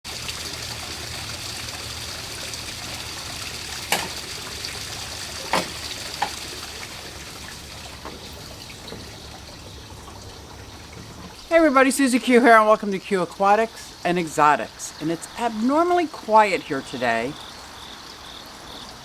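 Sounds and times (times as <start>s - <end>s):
water trickling: 0.1s - 19.0s.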